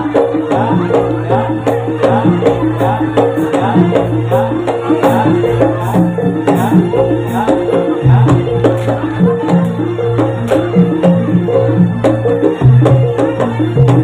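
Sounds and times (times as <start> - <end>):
drum and percussion strokes: 0.0 - 14.0.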